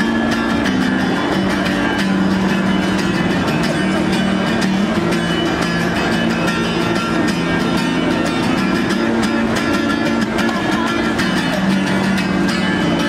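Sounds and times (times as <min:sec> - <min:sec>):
guitar: 0:00.0 - 0:13.0.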